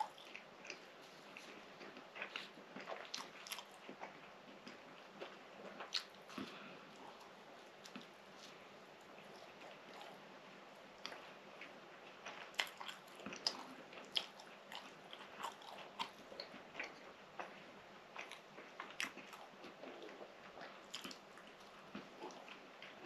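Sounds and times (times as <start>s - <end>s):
chewing with wet mouth clicks: 0.0s - 10.2s, 11.0s - 23.0s.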